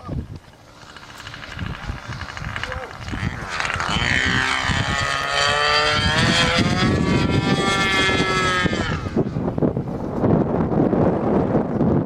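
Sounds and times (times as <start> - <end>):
model airplane engine running: 0.0 - 11.6.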